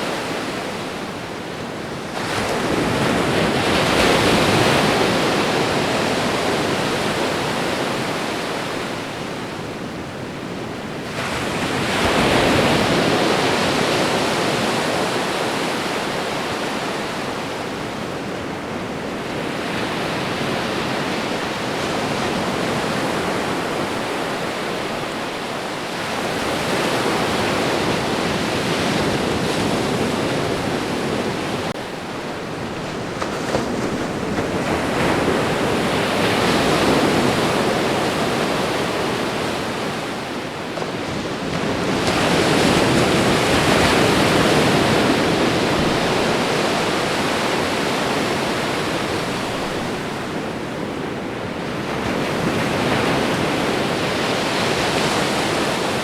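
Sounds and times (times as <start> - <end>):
ocean surf washing onto shore: 0.0 - 56.0.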